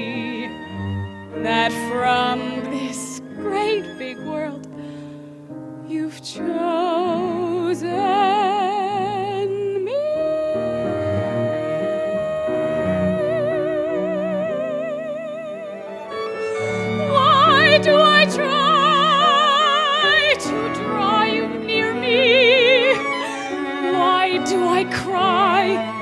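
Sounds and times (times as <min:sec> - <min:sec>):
soprano singing with vibrato: 0:00.0 - 0:04.7, 0:05.9 - 0:26.0
piano accompaniment: 0:00.0 - 0:26.0.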